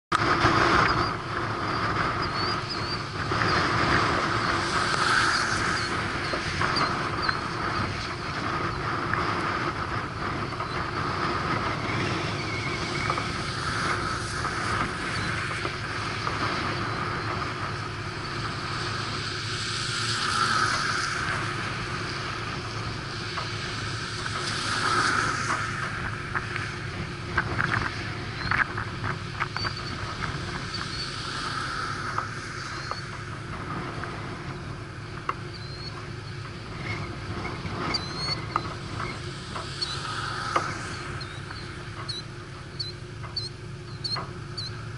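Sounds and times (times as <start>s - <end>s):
wind rushing over microphone: 0.1s - 44.9s.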